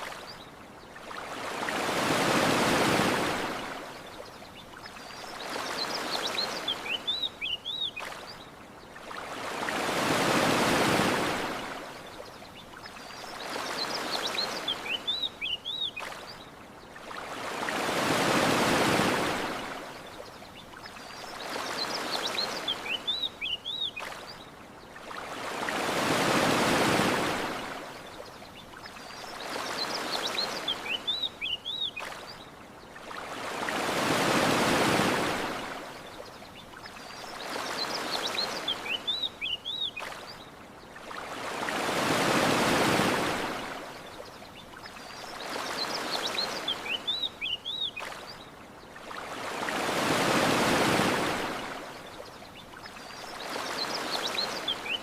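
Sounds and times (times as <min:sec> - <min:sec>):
ocean waves washing ashore: 0:00.0 - 0:55.0.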